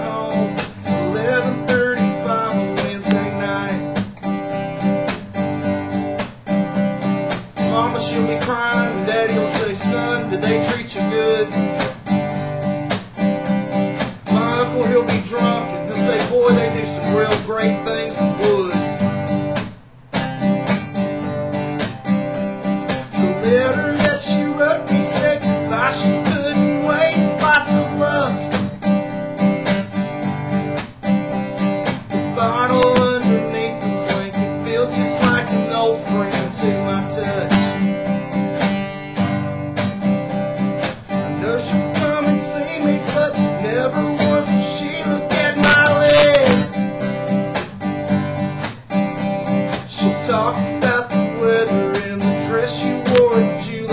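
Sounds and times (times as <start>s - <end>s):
acoustic guitar strumming: 0.0s - 53.9s.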